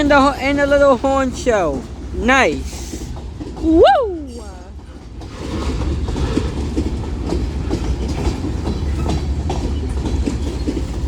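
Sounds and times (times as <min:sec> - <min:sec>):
freight train rumble: 0:00.0 - 0:11.0
wheels clacking over rail joints: 0:00.0 - 0:11.0.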